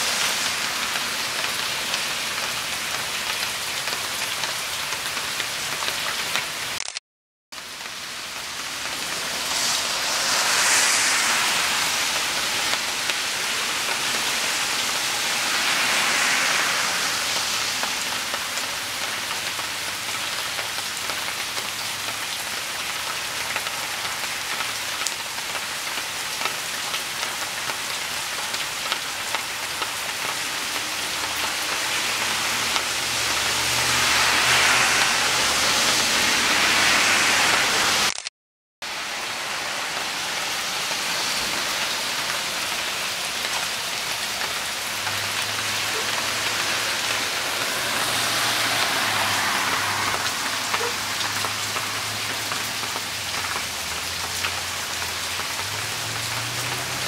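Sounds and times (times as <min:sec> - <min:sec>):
heavy rain on standing water: 0:00.0 - 0:57.0.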